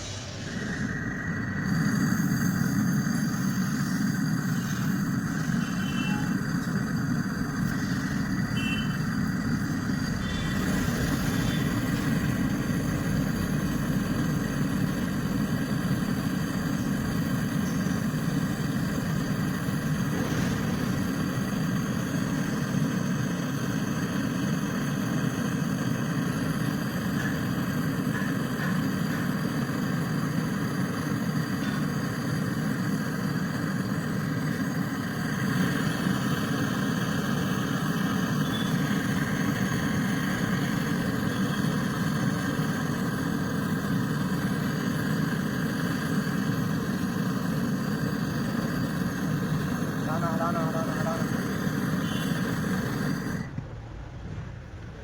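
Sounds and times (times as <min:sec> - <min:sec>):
torch flame roaring: 0:00.0 - 0:55.0.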